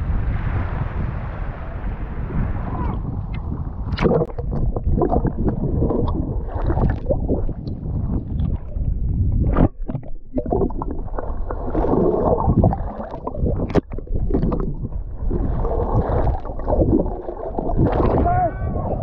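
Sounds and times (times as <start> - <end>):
sea water sloshing and gurgling: 0.0 - 19.0.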